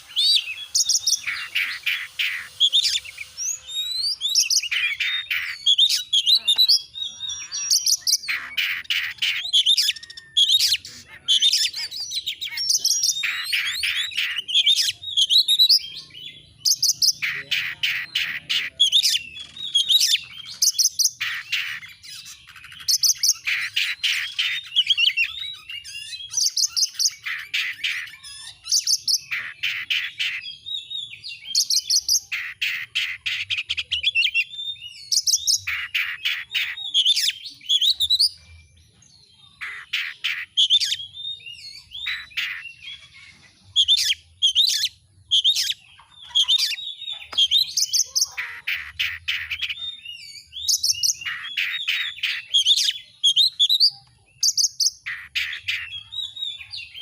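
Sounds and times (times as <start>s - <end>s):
bird singing trills and whistles: 0.0s - 57.0s.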